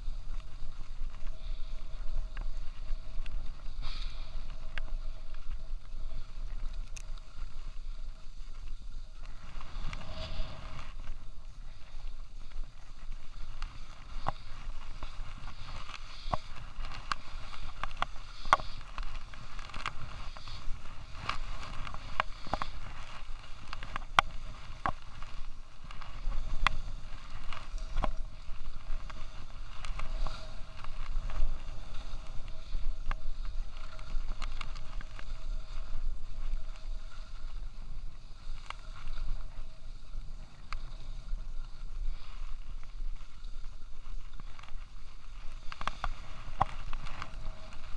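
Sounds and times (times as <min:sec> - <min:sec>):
ski clicks and knocks: 0:00.0 - 0:47.9
skis scraping over snow: 0:00.0 - 0:47.9
wind rumble on microphone: 0:00.0 - 0:47.9.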